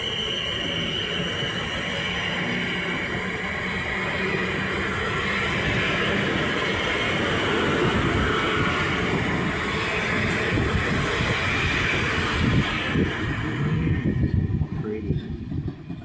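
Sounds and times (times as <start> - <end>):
train wheels rushing on track: 0.0 - 16.0.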